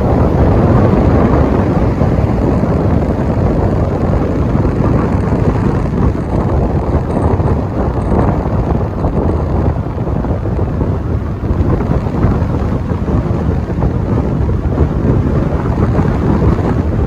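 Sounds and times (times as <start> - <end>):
low rumble of car: 0.0 - 17.0
wind rushing over microphone: 0.0 - 17.0.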